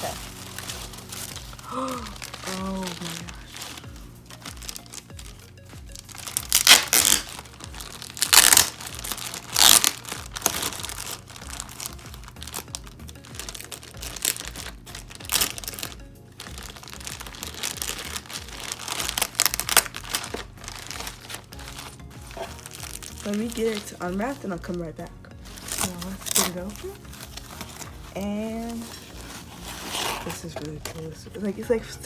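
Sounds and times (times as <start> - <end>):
background music: 0.0 - 32.0
paper wrapping crinkling and tearing: 0.0 - 32.0.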